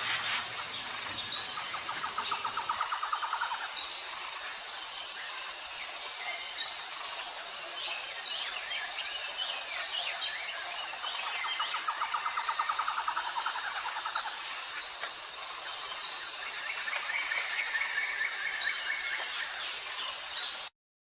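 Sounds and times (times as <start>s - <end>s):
high insect drone pulsing: 0.0s - 20.5s.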